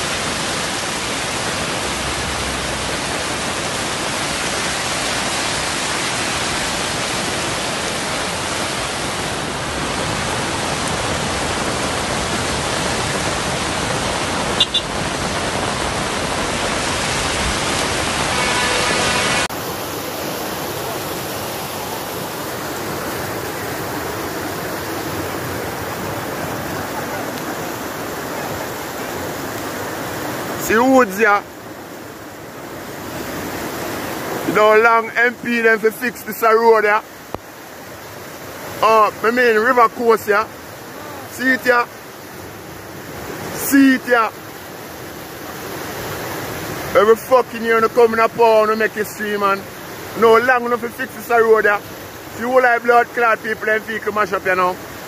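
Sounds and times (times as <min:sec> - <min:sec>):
rushing floodwater roar: 0:00.0 - 0:55.0.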